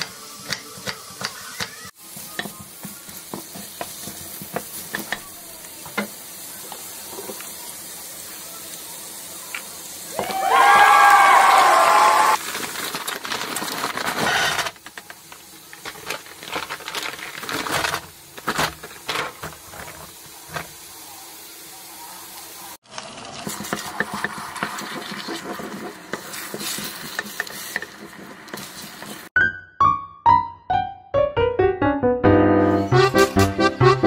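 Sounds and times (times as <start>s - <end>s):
eggs sizzling in a frying pan: 0.0s - 29.4s.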